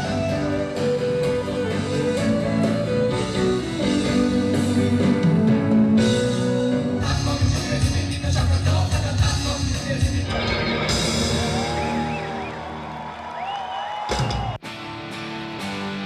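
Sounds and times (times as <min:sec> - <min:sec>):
rock music with electric guitar: 0:00.0 - 0:13.0, 0:14.1 - 0:16.0.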